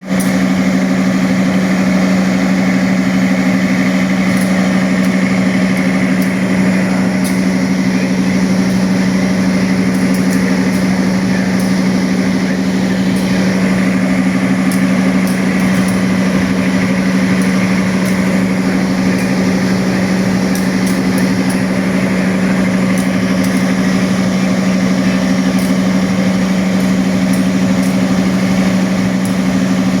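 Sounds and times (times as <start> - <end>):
diesel generator droning: 0.0 - 30.0.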